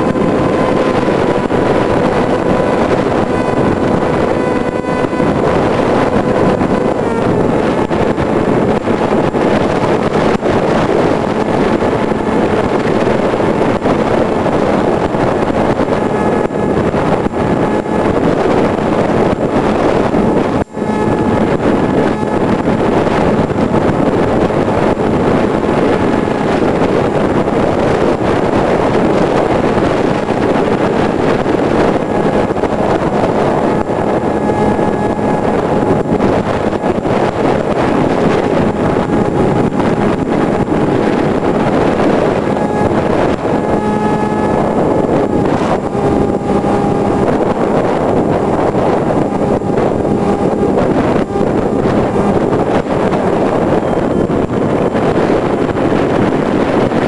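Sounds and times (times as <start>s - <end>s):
electric motor and propeller whine: 0.0s - 57.0s
wind rushing over microphone: 0.0s - 57.0s.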